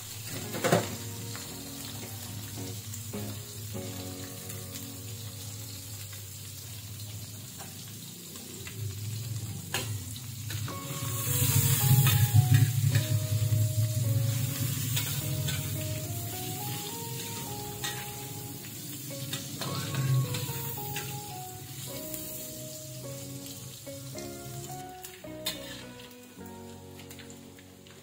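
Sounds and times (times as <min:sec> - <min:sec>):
soft background music: 0:00.0 - 0:08.4, 0:10.5 - 0:28.0
fish sizzling in hot oil: 0:00.0 - 0:28.0.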